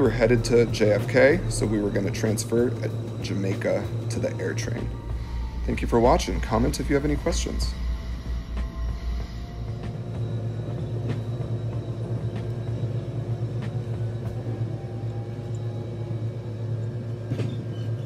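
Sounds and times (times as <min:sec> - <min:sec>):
faint hum: 0:00.0 - 0:18.0
train rumble from inside: 0:00.0 - 0:18.0.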